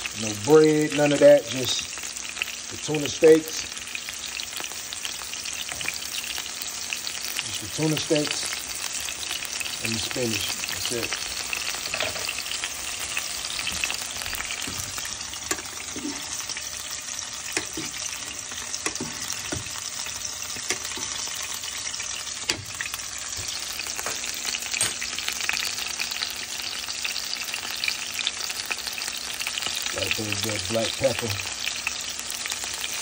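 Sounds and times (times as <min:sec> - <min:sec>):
fish sizzling in a frying pan: 0:00.0 - 0:33.0.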